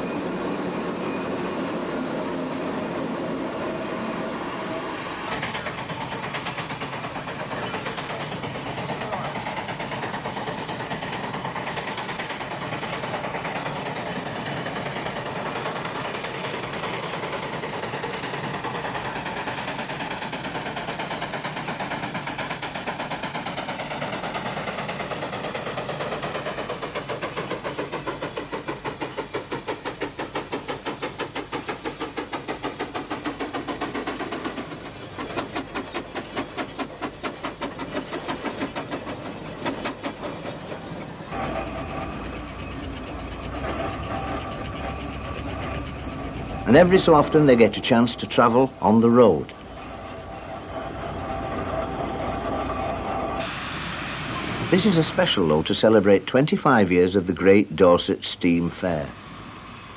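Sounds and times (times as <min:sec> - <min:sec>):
steam engine hiss and clatter: 0:00.0 - 0:59.9
steam exhaust chuffs: 0:00.0 - 0:59.9.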